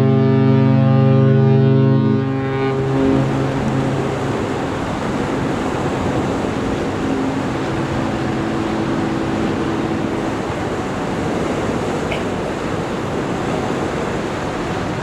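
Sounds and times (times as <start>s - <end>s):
ship hum: 0.0s - 15.0s
wind and water rushing: 0.0s - 15.0s.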